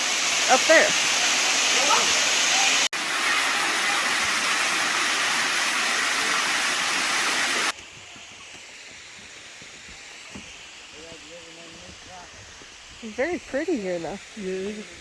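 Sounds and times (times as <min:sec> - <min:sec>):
faint rush of water: 0:00.0 - 0:15.0
waterfall roaring: 0:00.0 - 0:15.0.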